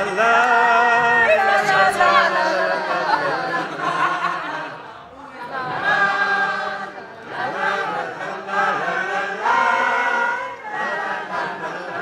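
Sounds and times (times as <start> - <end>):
voices singing long notes: 0.0 - 4.8, 5.4 - 12.0.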